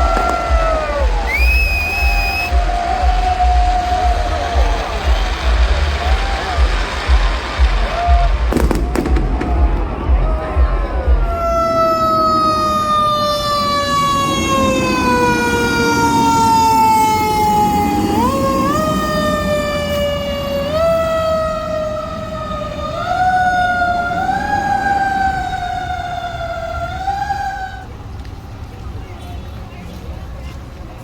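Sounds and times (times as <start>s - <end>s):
emergency vehicle siren wailing: 0.0s - 28.9s.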